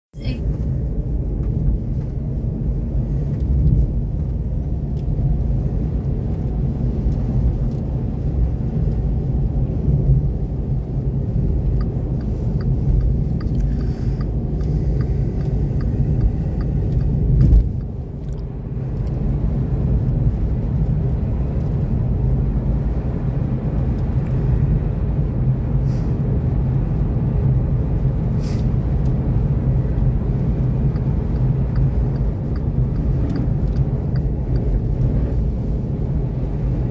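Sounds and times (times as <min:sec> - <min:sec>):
tyre and road noise: 0:00.2 - 0:36.9.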